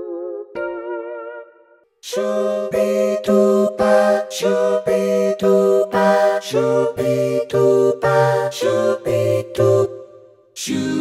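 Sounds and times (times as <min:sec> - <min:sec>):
keyboard choir voice chords: 0:00.0 - 0:11.0.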